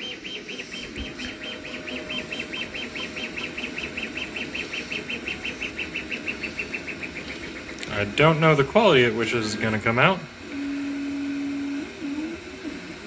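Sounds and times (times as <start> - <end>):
faint steady hum: 0.0 - 13.0
stepper motors chirping: 0.0 - 13.0.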